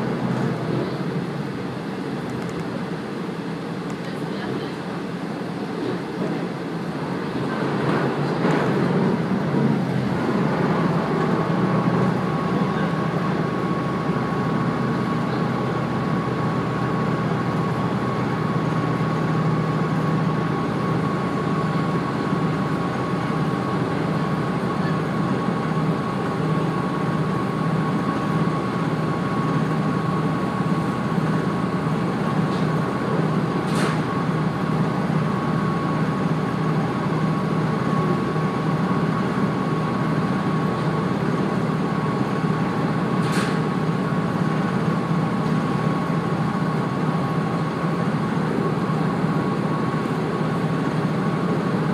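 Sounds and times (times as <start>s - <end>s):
diesel engine hum: 0.0s - 51.9s.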